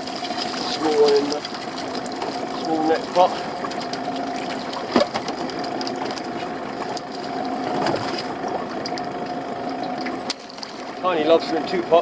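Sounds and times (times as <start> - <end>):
boat machinery whining: 0.0 - 12.0
fine ticking rattle: 0.0 - 12.0.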